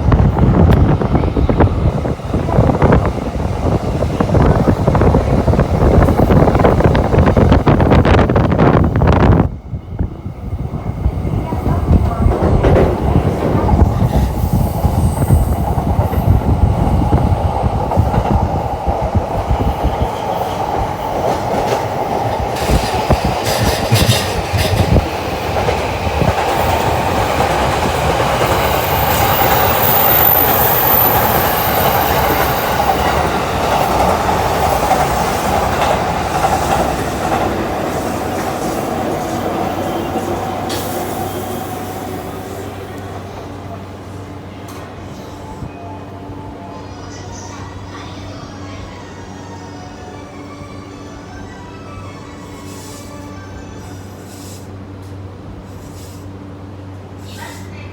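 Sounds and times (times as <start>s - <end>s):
train running on rails: 0.0s - 57.9s.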